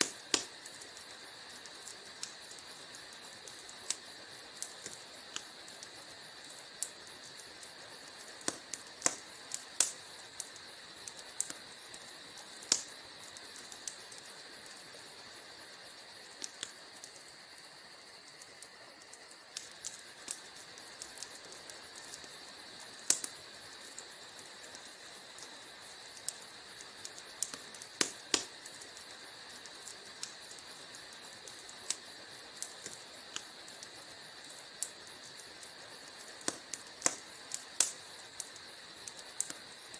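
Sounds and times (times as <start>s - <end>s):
soft fire hiss: 0.0s - 39.9s
wood fire popping and snapping: 0.0s - 39.9s.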